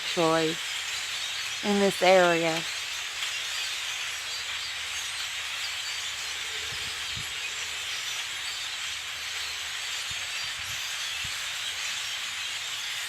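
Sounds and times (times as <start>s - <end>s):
flock of birds chattering: 0.0s - 13.0s.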